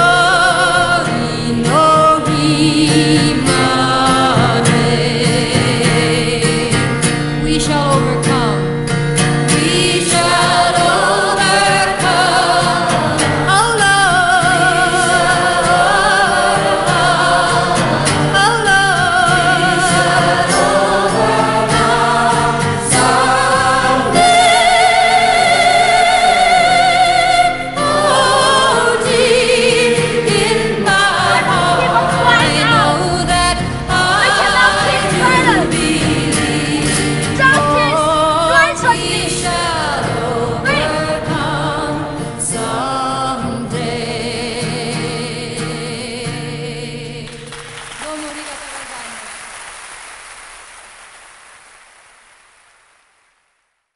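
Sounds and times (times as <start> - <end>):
choir singing with music: 0.0 - 48.0.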